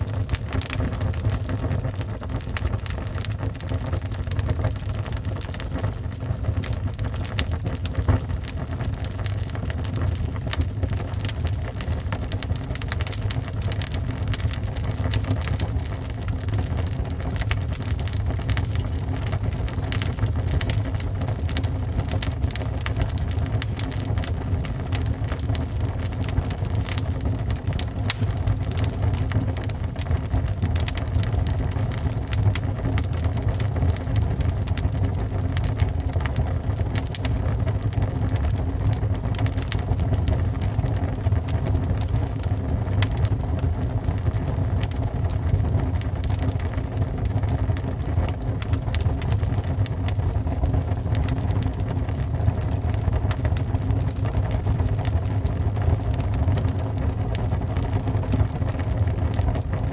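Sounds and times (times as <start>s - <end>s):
fire flames rumbling: 0.0s - 59.9s
logs crackling and popping: 0.0s - 59.9s.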